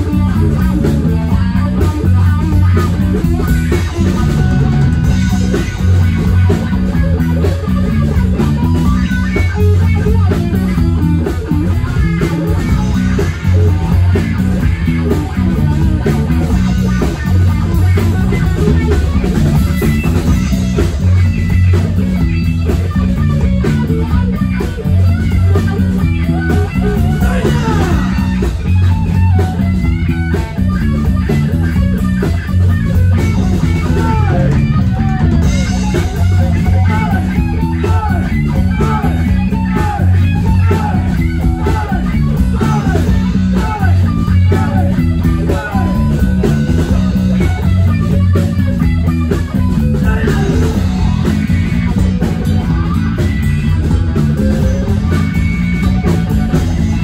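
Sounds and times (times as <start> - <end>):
bass guitar: 0.0 - 57.0
drum kit: 0.0 - 57.0
electric guitar: 0.0 - 57.0.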